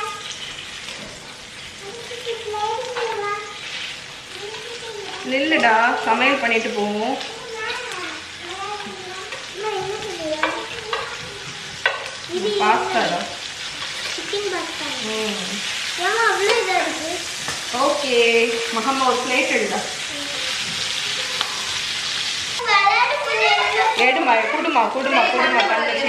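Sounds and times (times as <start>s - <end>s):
chicken sizzling in a pan: 0.0s - 26.0s.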